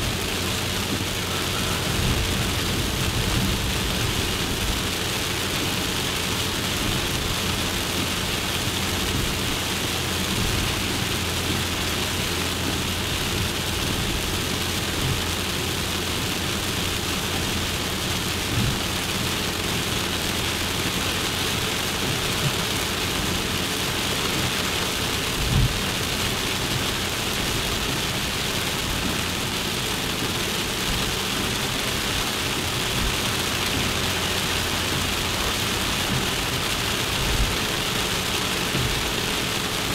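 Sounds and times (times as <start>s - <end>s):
car engine drone: 0.0s - 39.9s
road hiss: 0.0s - 39.9s.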